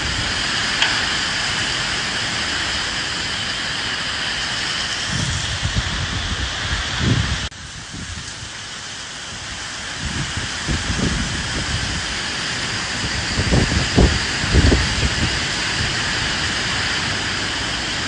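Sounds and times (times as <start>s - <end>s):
steady rain falling: 0.0s - 18.0s
wind gusts rumbling: 0.0s - 18.0s.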